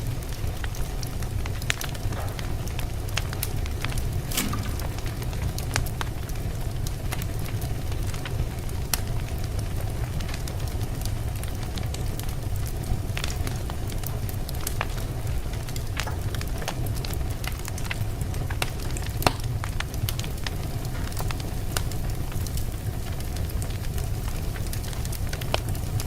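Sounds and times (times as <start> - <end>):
fire crackling and popping: 0.0 - 26.0
fire rumbling and hissing: 0.0 - 26.0.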